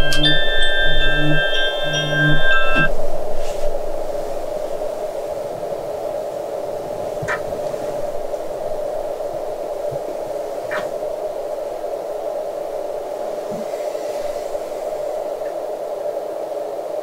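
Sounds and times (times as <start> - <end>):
white noise machine whooshing: 0.0 - 16.6.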